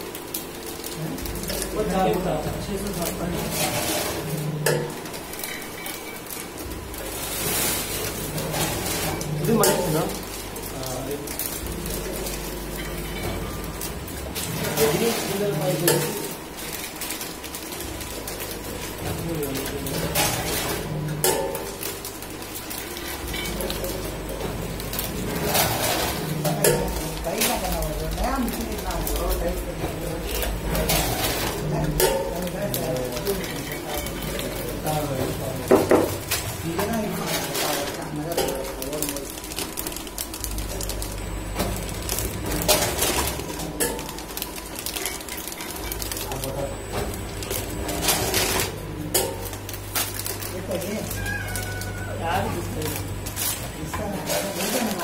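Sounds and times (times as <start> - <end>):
packing machine humming: 0.0 - 55.0.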